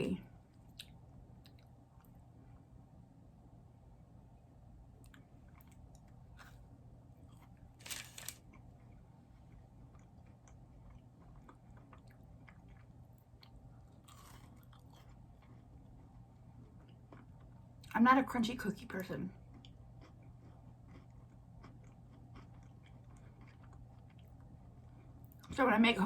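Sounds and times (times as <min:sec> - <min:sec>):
person chewing a cookie: 0:00.4 - 0:02.8, 0:05.0 - 0:17.9, 0:19.3 - 0:25.6.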